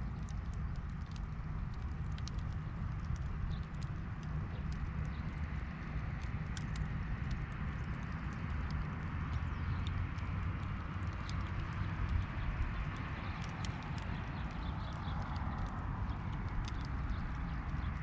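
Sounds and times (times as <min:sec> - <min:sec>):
campfire crackling: 0:00.0 - 0:18.0
low background noise: 0:00.0 - 0:18.0.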